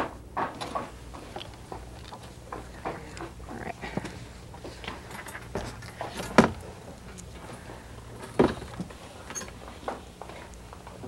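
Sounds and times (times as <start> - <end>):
animal carriers knocking and rattling: 0.0 - 11.0.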